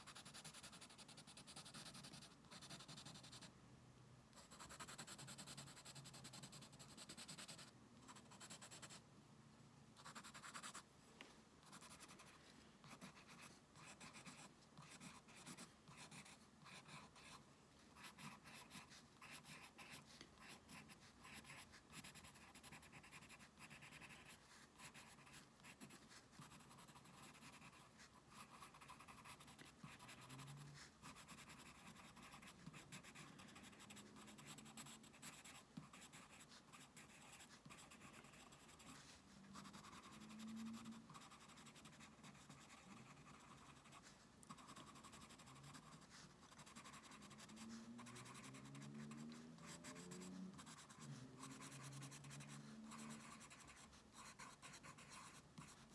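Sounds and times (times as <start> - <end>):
pencil scratching on paper: 0.0 - 3.5, 4.4 - 9.0, 10.0 - 10.8, 11.6 - 55.9.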